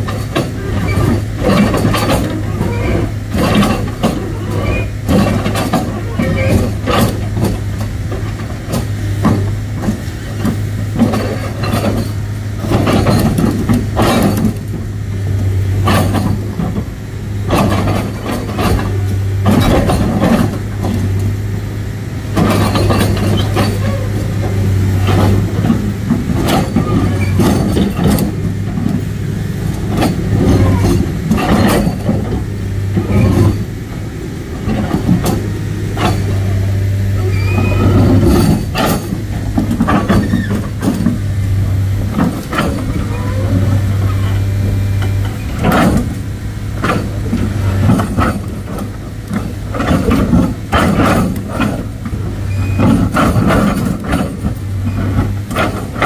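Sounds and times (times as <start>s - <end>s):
irregular clanks and knocks: 0.0s - 21.4s, 22.3s - 36.8s, 37.5s - 44.4s, 45.0s - 56.0s
diesel engine running under load: 0.0s - 56.0s.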